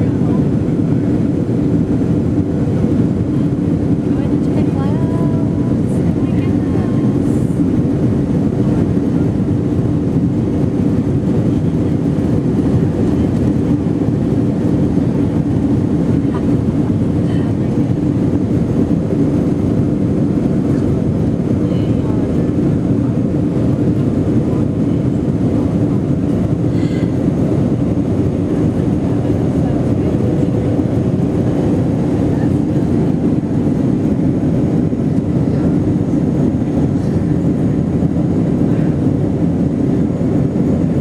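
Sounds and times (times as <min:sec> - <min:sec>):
jet engines and rushing air: 0:00.0 - 0:41.0.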